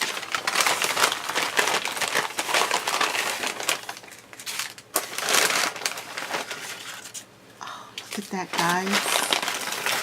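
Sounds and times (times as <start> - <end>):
packaging crinkling and rustling: 0.0 - 7.3, 8.0 - 10.0.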